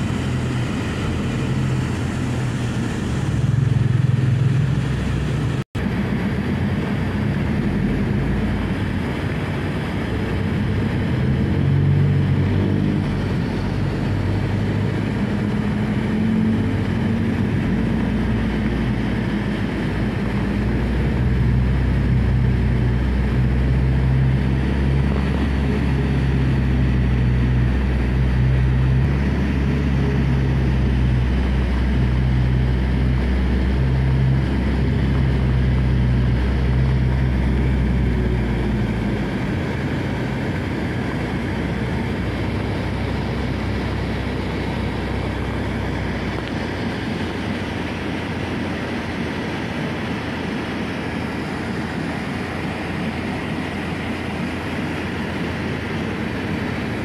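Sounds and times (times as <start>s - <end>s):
van engine and road rumble: 0.0s - 57.0s.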